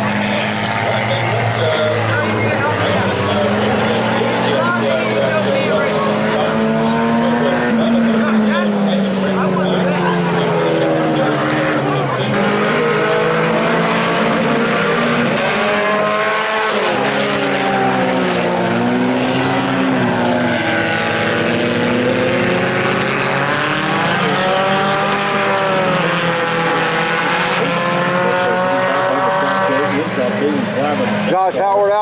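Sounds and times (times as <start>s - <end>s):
race car engines revving: 0.0s - 32.0s.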